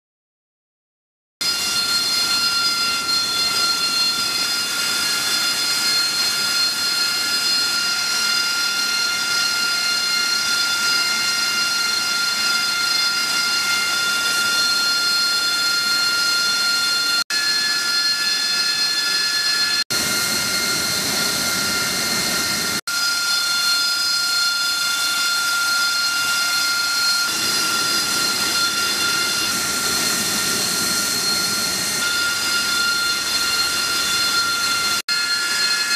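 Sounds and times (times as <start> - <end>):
jet engine whine: 1.4 - 35.9.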